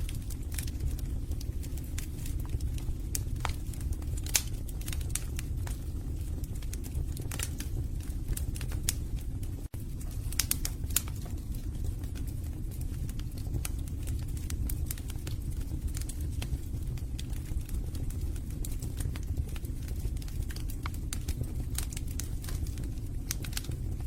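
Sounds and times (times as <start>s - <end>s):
fire popping: 0.0s - 24.0s
wood fire crackling: 0.0s - 24.0s.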